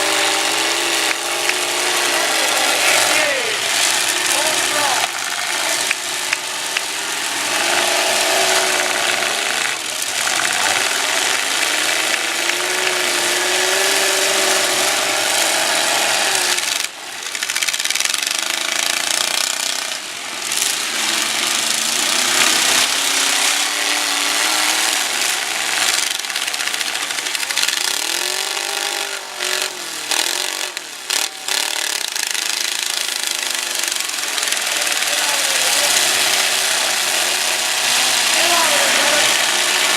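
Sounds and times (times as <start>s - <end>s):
metal grinding and scraping: 0.0s - 39.9s
truck engines revving: 0.0s - 39.9s.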